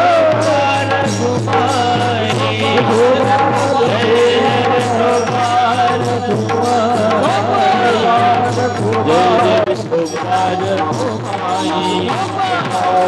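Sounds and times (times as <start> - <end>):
drum beat: 0.0 - 13.0
jingling hand percussion: 0.0 - 13.0.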